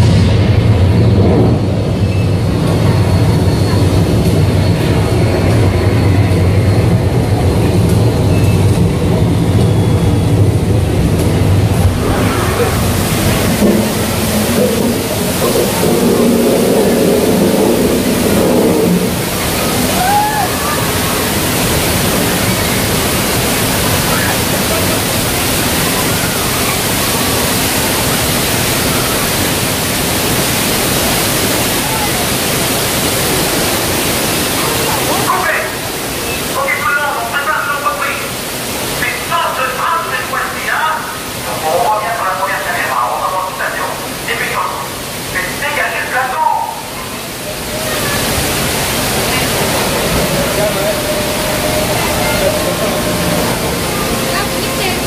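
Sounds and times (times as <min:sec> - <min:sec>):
propane flame jets rumbling: 0:00.0 - 0:55.0
torrent of water rushing: 0:00.0 - 0:55.0.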